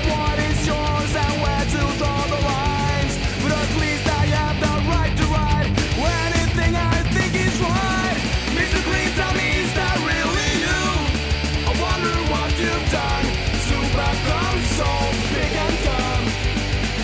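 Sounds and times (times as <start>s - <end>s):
punk rock instrumental music: 0.0s - 17.0s
steady drum beat: 0.0s - 17.0s.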